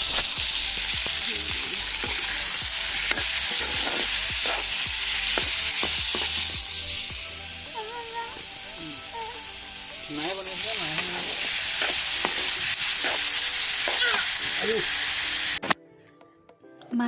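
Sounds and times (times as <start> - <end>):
meat sizzling in oil: 0.0 - 15.6.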